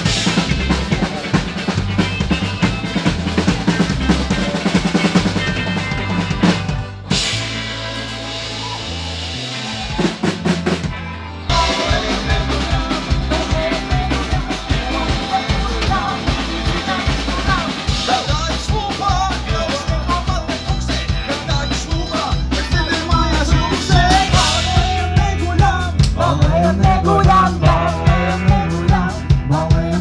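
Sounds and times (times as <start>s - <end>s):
live rock band playing: 0.0s - 30.0s
slow held bass notes: 0.0s - 30.0s.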